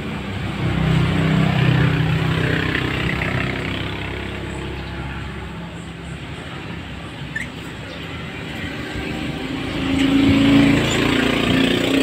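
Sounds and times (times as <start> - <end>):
passing vehicle engine hum: 0.0 - 12.0.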